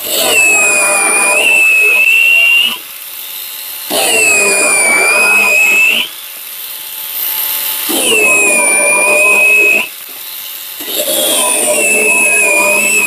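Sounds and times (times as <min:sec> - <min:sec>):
electric chainsaw cutting branches: 0:00.0 - 0:13.0.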